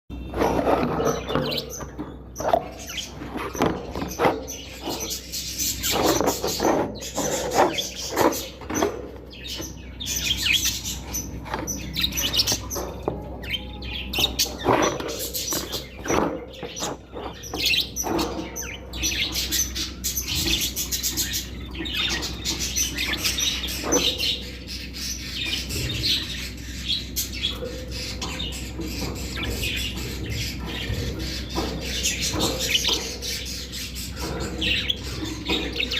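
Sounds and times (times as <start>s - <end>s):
budgerigars chirping: 0.2s - 35.9s.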